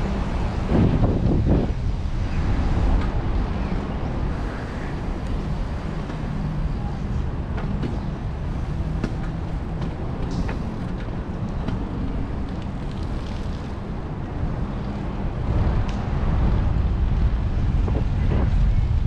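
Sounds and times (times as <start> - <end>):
tyre and path noise: 0.0 - 16.2
wind buffeting microphone: 0.0 - 19.0.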